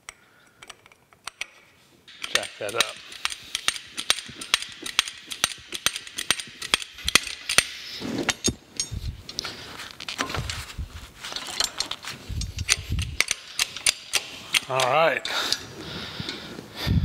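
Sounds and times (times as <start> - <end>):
metal clicks and clinks: 0.0 - 10.6, 11.3 - 15.7.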